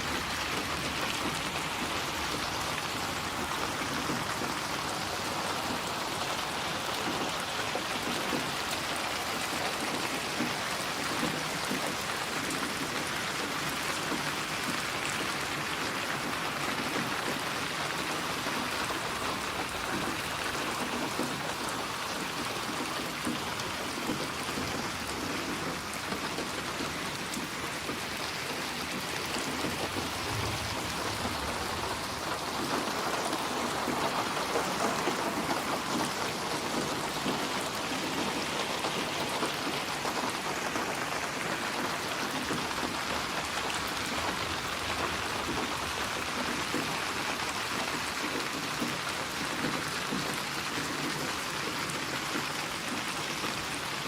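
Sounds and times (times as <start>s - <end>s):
rain patter on a surface: 0.0s - 54.0s.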